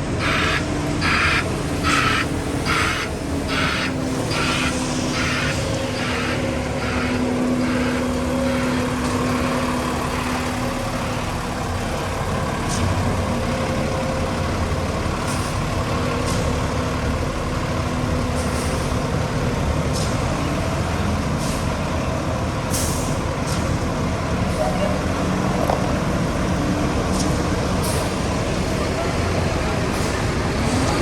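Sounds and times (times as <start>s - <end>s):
truck engine running: 0.0s - 31.0s.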